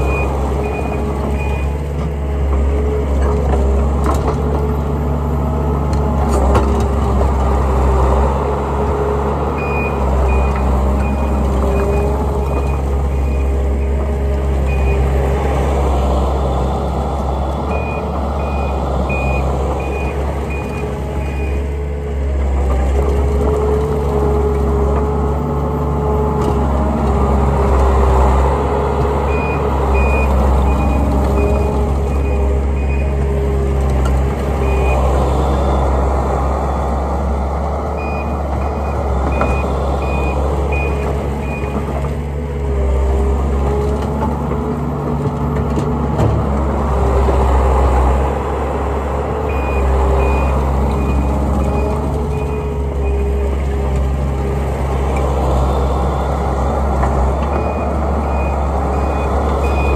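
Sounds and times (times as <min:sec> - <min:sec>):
diesel engine running hard: 0:00.0 - 0:59.9.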